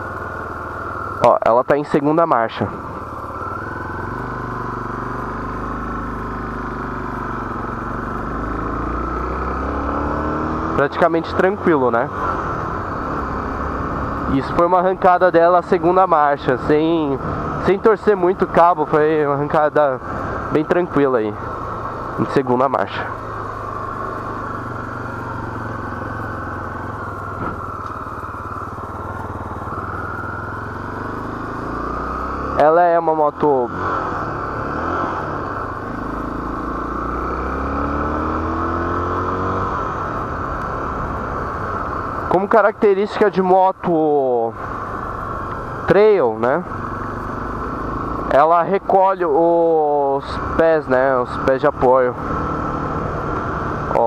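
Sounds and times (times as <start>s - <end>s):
motorcycle engine pulling away: 0.0s - 43.3s, 44.0s - 54.0s.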